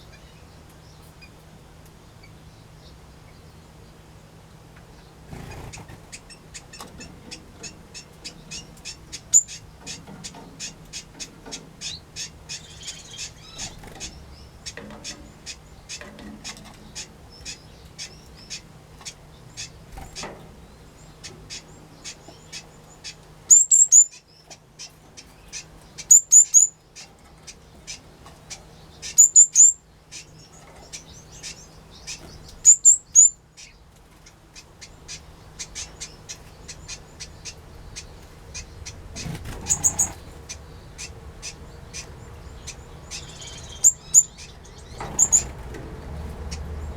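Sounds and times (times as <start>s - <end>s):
small birds chipping: 0.0s - 46.9s.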